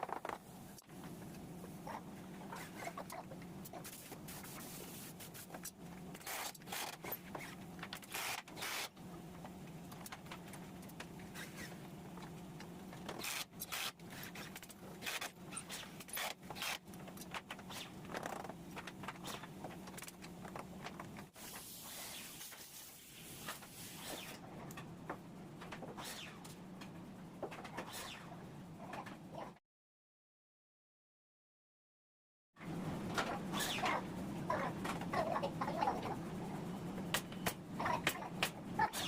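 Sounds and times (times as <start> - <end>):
steady low hum: 0.0 - 21.4, 23.0 - 29.6, 32.6 - 39.0.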